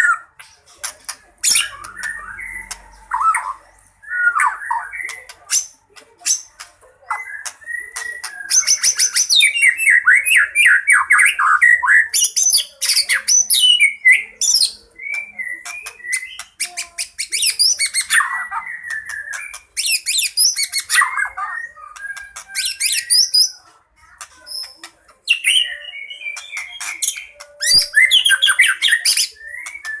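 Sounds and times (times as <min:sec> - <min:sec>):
bird singing varied song: 0:00.0 - 0:30.0.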